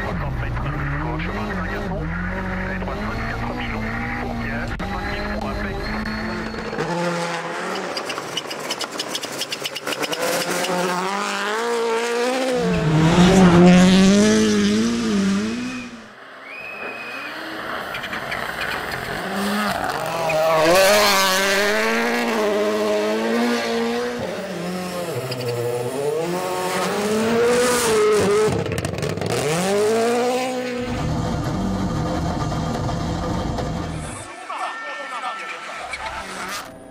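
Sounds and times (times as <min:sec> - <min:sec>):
rally car engines revving: 0:00.0 - 0:36.9.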